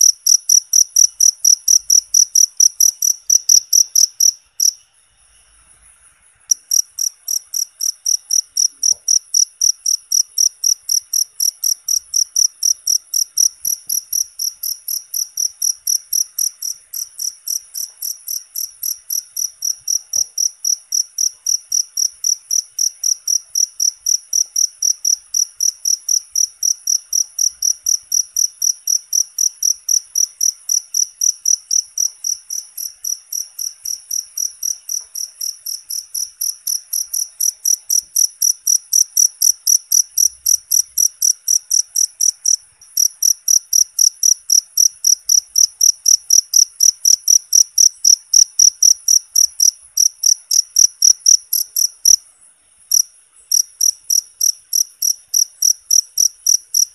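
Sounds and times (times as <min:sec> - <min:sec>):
cricket chirping: 0:00.0 - 0:56.9.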